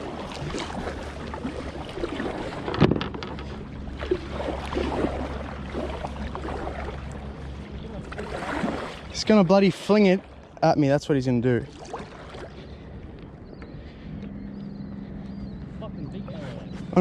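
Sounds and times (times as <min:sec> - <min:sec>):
water sloshing around kayak: 0:00.0 - 0:17.0.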